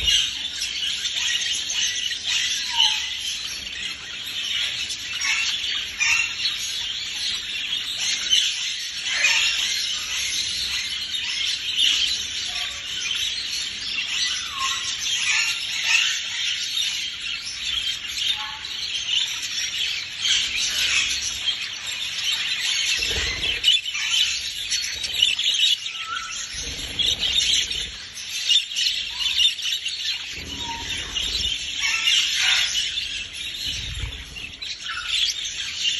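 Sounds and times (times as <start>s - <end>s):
budgerigars chattering: 0.0s - 35.9s.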